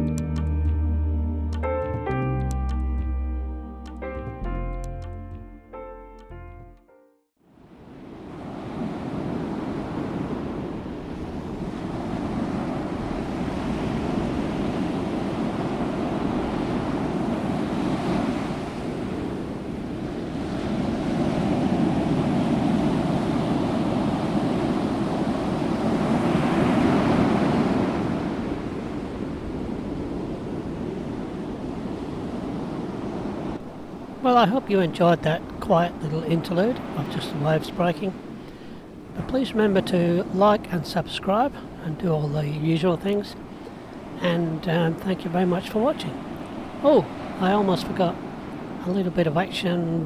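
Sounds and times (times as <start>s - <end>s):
ocean waves breaking: 7.4s - 50.0s.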